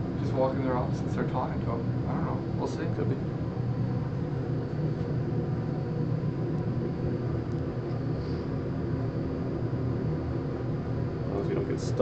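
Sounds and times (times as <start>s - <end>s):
elevator rumble and hum: 0.0s - 12.0s.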